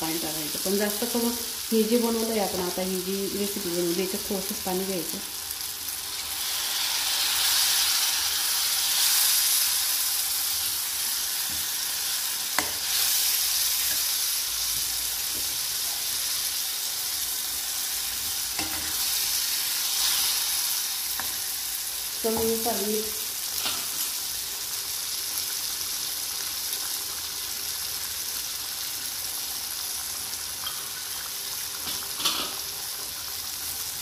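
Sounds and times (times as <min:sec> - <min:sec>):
curry sizzling in hot pan: 0:00.0 - 0:34.0.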